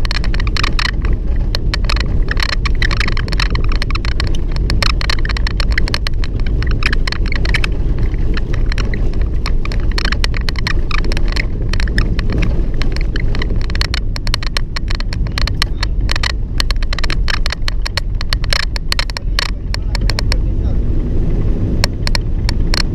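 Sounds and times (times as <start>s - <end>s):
door squeaking and rattling: 0.0s - 20.5s
road and engine rumble: 0.0s - 22.9s.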